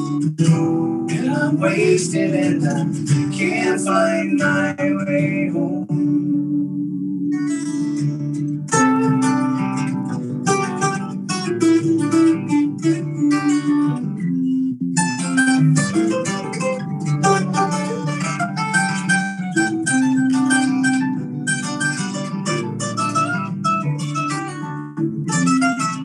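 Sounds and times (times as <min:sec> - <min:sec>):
acoustic guitars strumming: 0:00.0 - 0:26.0.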